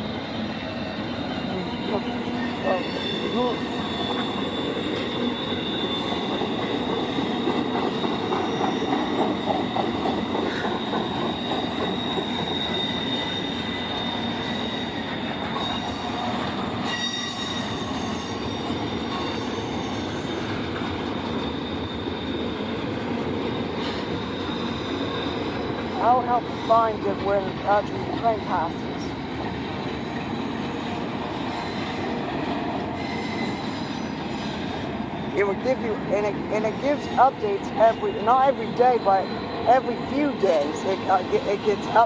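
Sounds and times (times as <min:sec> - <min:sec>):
freight train rumbling: 0:00.0 - 0:42.0
wheels squealing: 0:00.1 - 0:27.8, 0:28.4 - 0:38.2.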